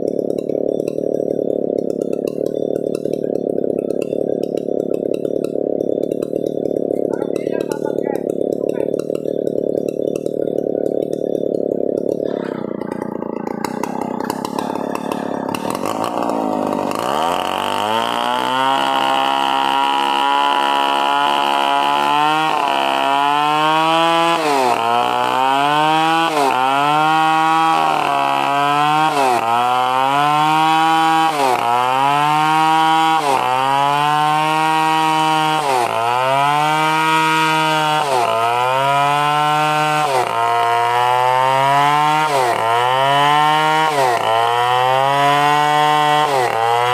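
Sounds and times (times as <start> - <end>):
chainsaw revving and bogging down: 0.0 - 46.9.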